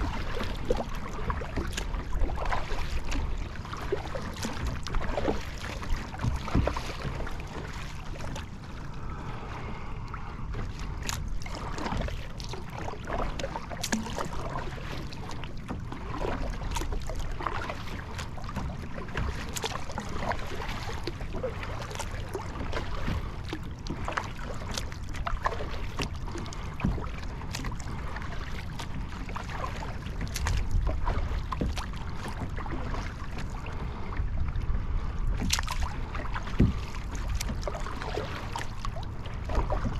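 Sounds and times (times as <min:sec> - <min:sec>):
low wind rumble on microphone: 0:00.0 - 0:39.9
water lapping and splashing: 0:00.0 - 0:39.9.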